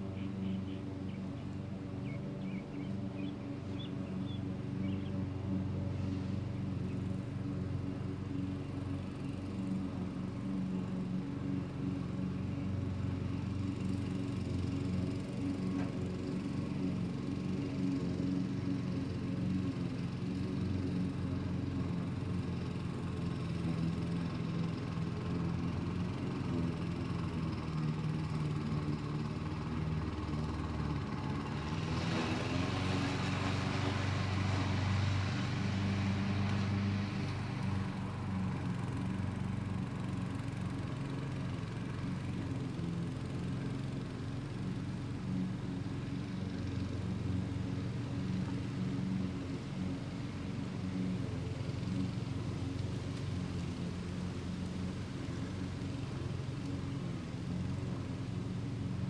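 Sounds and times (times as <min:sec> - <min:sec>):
distant lawn mower engines: 0:00.0 - 0:59.0.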